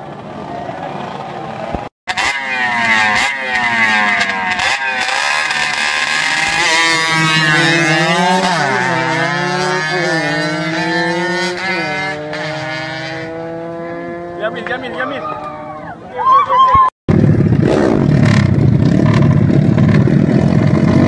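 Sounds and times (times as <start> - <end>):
motorcycle engines revving: 0.0 - 16.2, 17.1 - 21.0.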